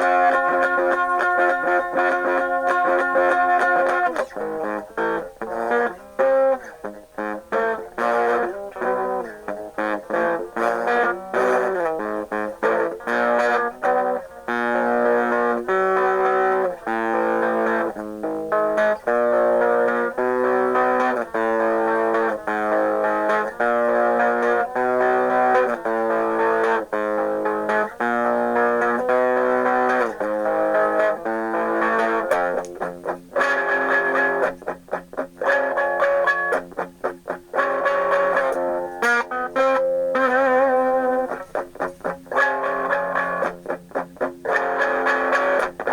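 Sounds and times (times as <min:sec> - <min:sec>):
distorted electric guitar chords: 0:00.0 - 0:45.9.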